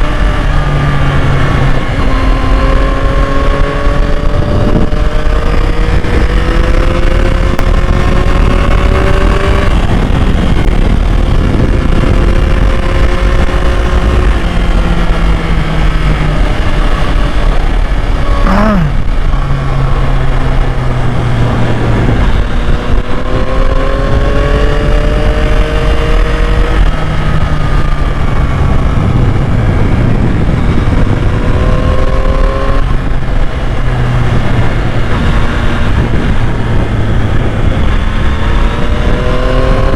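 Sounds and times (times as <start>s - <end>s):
motorcycle engine changing gear: 0.0s - 39.9s
wind rumble: 0.0s - 39.9s.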